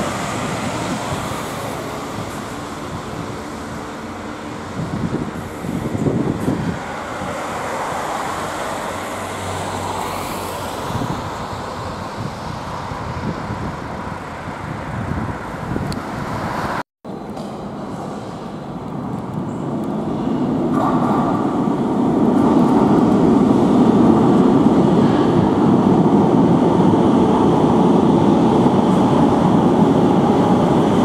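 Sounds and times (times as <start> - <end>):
train approaching: 0.0 - 31.0
vehicle running noise: 0.0 - 31.0.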